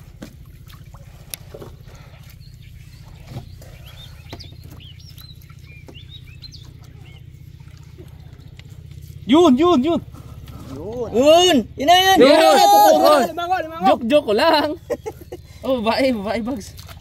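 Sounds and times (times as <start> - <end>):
birds chirping: 0.0 - 17.0
low motor hum: 0.0 - 17.0.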